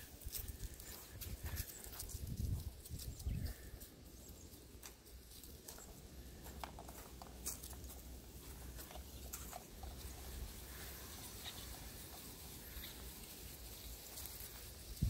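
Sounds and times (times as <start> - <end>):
footsteps on dry grass: 0.0 - 15.0
light ticks and rustles: 0.0 - 15.0.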